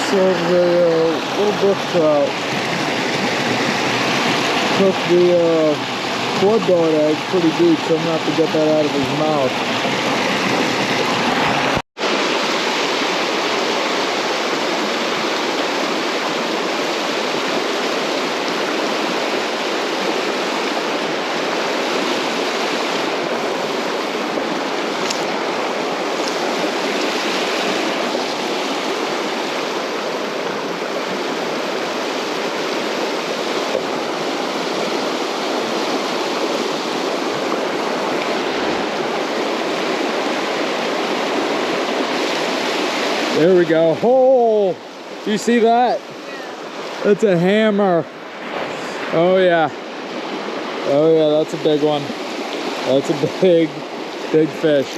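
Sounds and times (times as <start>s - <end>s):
creek water flowing: 0.0s - 54.9s.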